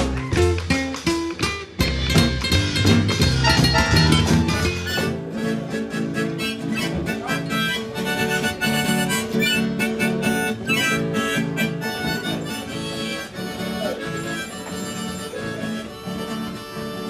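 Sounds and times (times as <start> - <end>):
strummed nylon-string guitar: 0.0 - 17.0
harmonica melody: 1.6 - 17.0.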